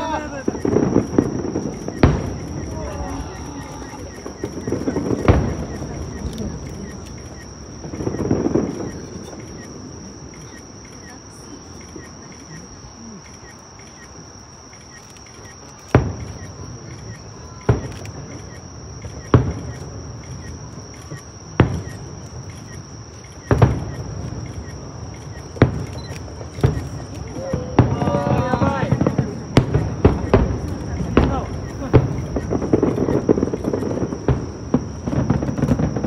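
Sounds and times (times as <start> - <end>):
fireworks booming: 0.0 - 36.0
night insects chirping: 0.0 - 36.0.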